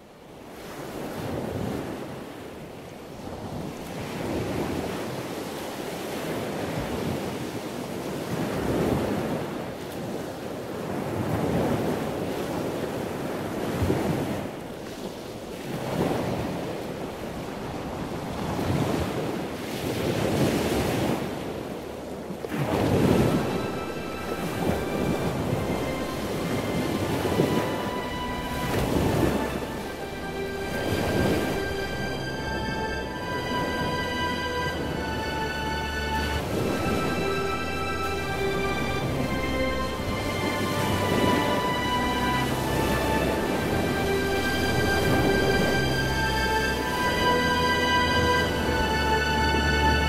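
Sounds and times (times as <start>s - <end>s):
waves breaking: 0.0s - 50.0s
wind: 0.0s - 50.0s.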